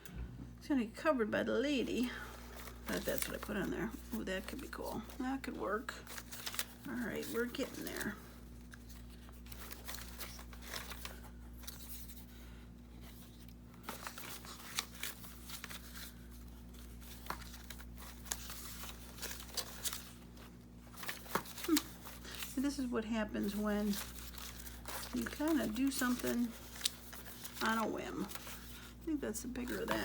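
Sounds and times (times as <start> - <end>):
paper rustling and crinkling: 1.9 - 30.0.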